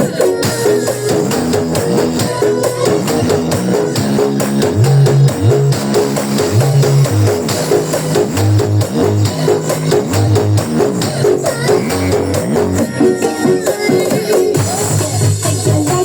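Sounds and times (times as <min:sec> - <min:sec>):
music with plucked guitar and bass: 0:00.0 - 0:14.0.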